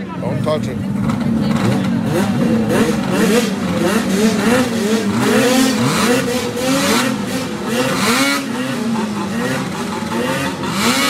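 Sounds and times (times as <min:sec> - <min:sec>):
snowmobile engines revving: 0:00.0 - 0:11.0.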